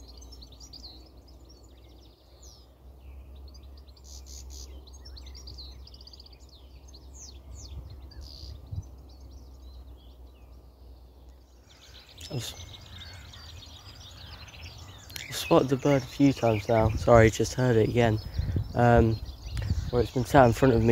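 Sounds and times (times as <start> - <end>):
songbirds singing and chirping: 0.0 - 20.9
steady low rumble: 0.0 - 20.9.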